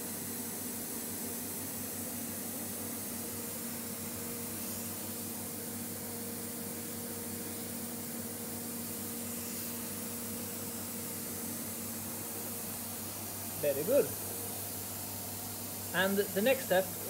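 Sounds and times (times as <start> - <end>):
workshop machinery hum: 0.0 - 17.0.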